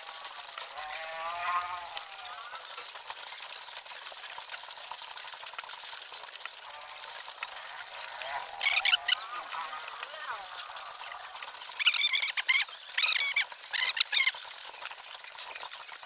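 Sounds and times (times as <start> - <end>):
rain hiss: 0.0 - 15.6.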